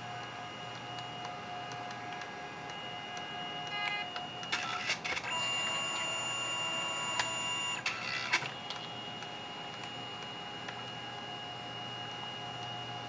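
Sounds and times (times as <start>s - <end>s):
photo printer motor whine: 0.0s - 13.0s.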